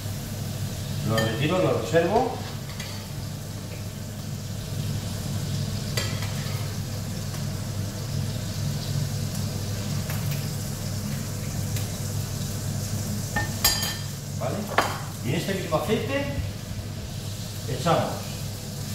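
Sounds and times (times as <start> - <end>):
shrimp sizzling in hot oil: 0.0 - 18.9.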